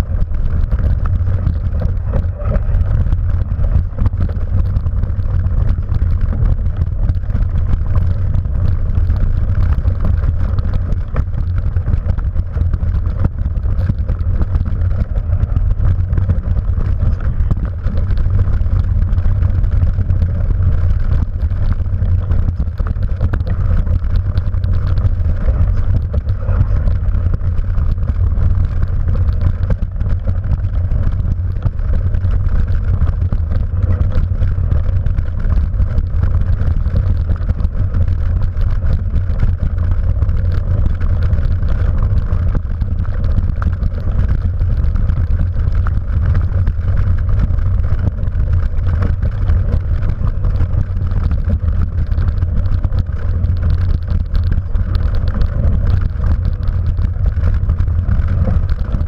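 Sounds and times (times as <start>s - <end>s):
bike clicking and rattling: 0.0s - 59.0s
wind and tyre rumble: 0.0s - 59.0s.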